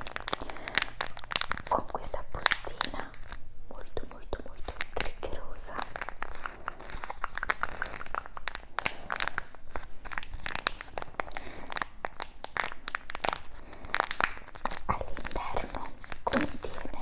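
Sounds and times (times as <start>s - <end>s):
packaging crinkling and tearing: 0.0s - 3.4s, 4.1s - 17.0s.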